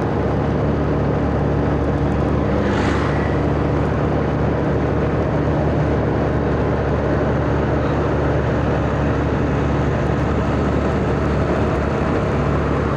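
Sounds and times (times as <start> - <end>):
minibus engine droning: 0.0 - 12.9.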